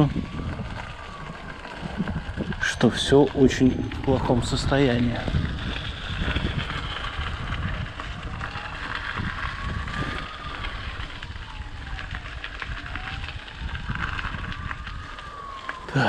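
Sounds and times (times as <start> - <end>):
siren wailing: 0.0 - 16.0
wind rumble on microphone: 0.0 - 16.0.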